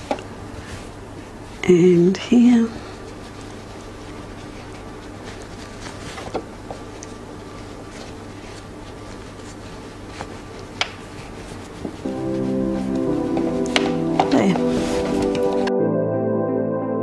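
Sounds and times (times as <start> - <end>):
fabric rustling: 0.0 - 15.7
steady low hum: 0.0 - 15.7.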